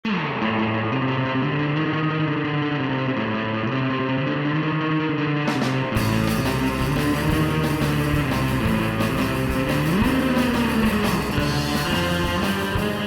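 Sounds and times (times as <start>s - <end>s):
guitar-led background music: 0.1s - 13.0s.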